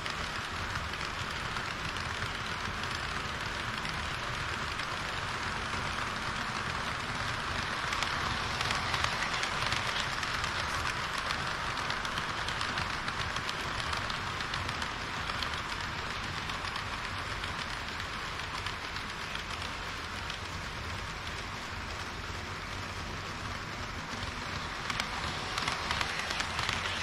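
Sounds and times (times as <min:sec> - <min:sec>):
model train wheels clattering: 0:00.0 - 0:27.0.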